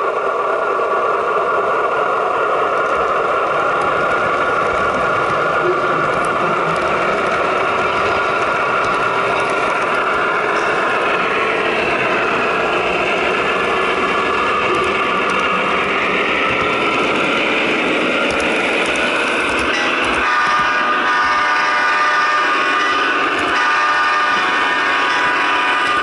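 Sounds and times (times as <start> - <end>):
model locomotive diesel engine sound: 0.0 - 26.0.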